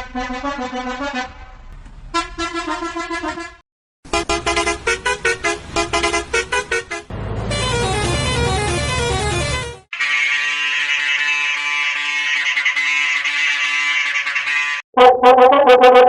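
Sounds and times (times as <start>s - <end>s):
musical bus horn tune: 0.0s - 14.8s.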